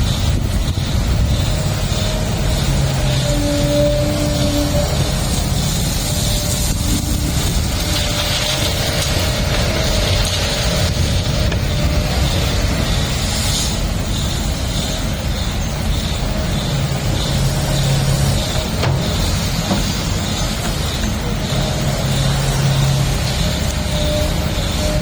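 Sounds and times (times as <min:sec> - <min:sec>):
excavator diesel engine rumbling: 0:00.0 - 0:25.0
pitched drone: 0:00.0 - 0:25.0.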